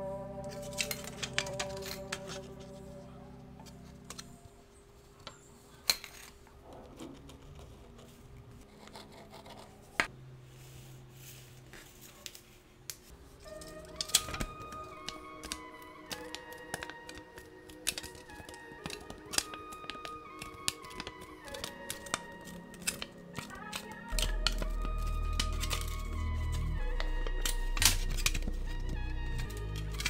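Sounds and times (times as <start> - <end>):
soft background music: 0.0 - 7.7, 13.1 - 30.0.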